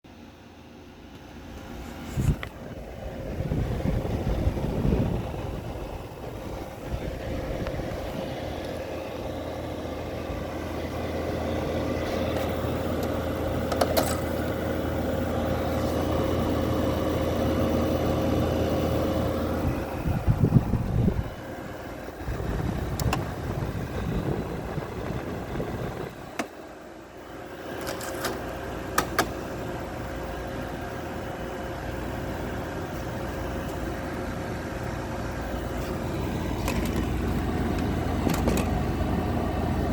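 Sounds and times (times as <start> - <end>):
air conditioner humming and whining: 0.1 - 39.9.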